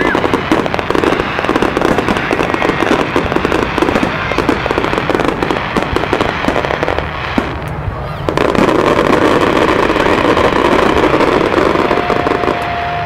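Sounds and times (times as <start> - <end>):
fireworks bursting with bangs: 0.0 - 13.0.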